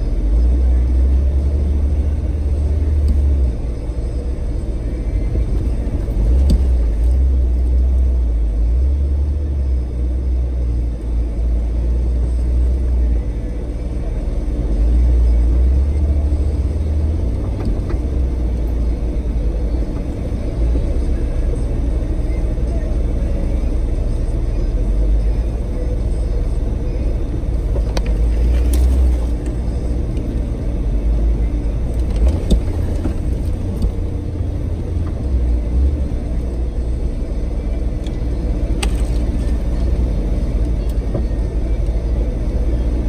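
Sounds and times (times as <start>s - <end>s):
vehicle engine low rumble: 0.0s - 43.0s.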